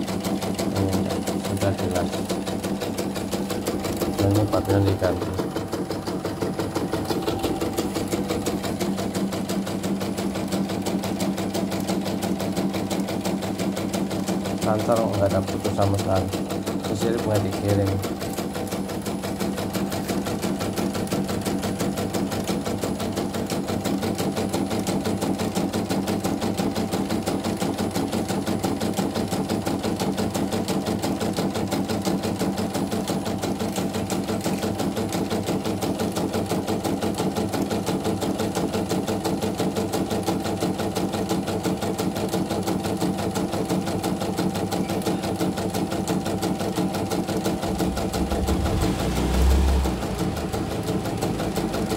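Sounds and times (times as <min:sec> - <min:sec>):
embroidery machine needle clatter: 0:00.0 - 0:47.9.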